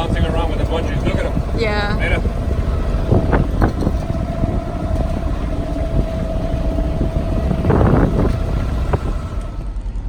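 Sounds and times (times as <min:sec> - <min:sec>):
boat motor running: 0:00.0 - 0:10.0.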